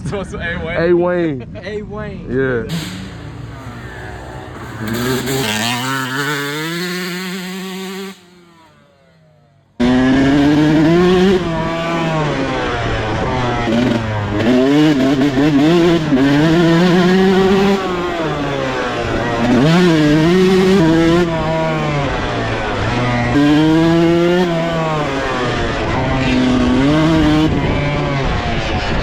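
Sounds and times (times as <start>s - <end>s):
dirt bike engine revving: 2.7s - 28.9s.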